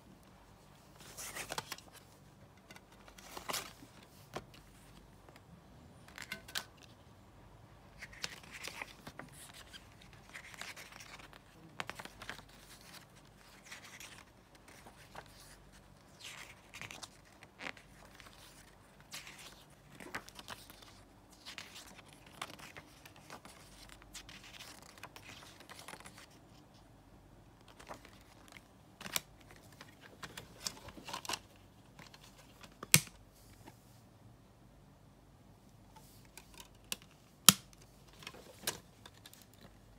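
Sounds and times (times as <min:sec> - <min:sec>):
paper rustling and pages turning: 0:00.6 - 0:07.0, 0:07.9 - 0:26.9, 0:27.6 - 0:34.0, 0:35.9 - 0:39.9.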